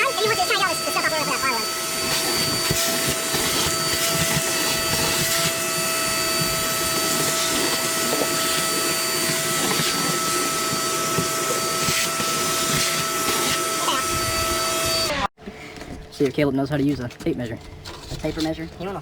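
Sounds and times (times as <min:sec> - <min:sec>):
small electric motor whining: 0:00.0 - 0:15.3.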